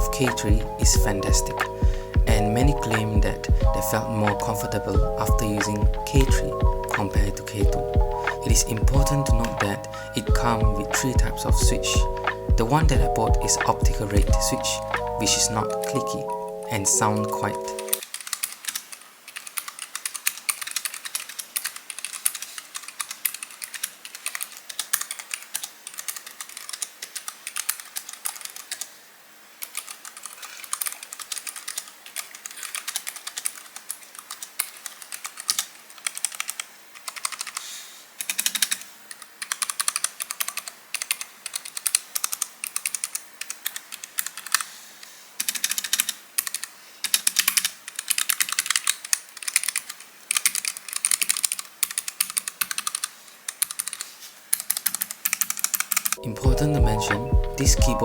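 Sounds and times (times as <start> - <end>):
mechanical keyboard typing: 0.0 - 29.0, 29.6 - 37.6, 38.2 - 44.7, 45.4 - 58.0.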